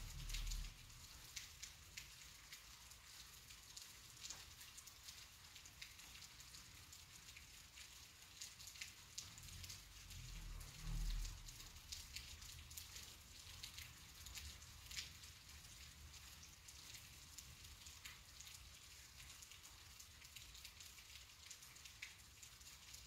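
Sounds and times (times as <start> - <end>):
light rain falling: 0.0 - 23.0
raindrops ticking: 0.0 - 23.0.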